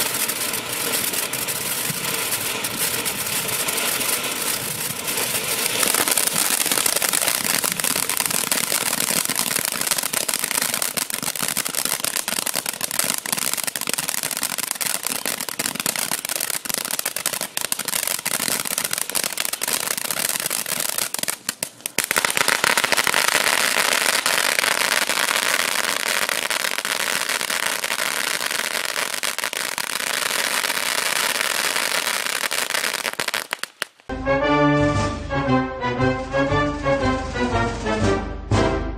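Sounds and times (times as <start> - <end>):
firework crackling and popping: 0.0 - 34.1
firework fountain hissing: 0.0 - 34.1.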